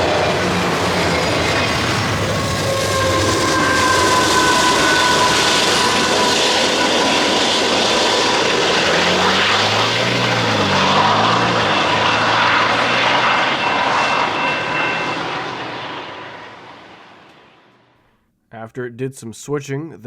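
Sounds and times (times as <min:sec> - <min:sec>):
freight train wheels on rails: 0:00.0 - 0:17.1
diesel locomotive engine hum: 0:00.0 - 0:17.9.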